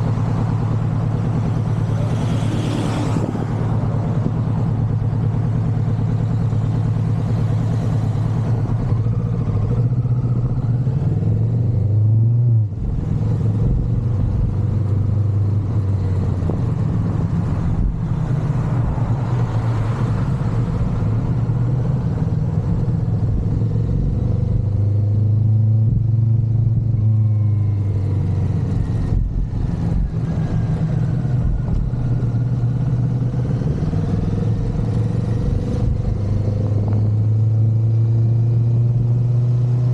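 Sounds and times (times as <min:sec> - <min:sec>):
motorcycle engine running: 0:00.0 - 0:11.8, 0:12.6 - 0:39.9.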